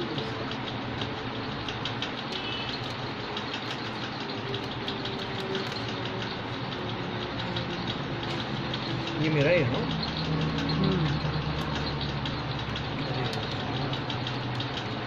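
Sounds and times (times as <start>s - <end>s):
machine running with low hum: 0.0s - 15.0s.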